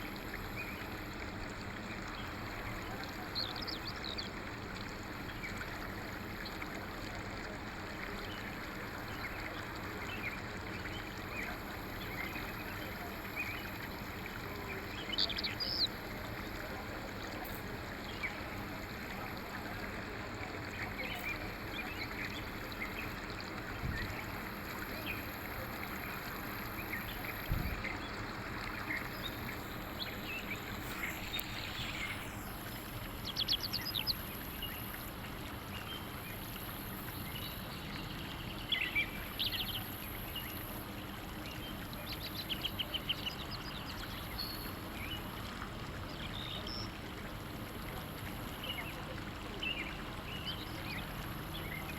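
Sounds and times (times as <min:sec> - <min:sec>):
stream running water: 0:00.0 - 0:51.9.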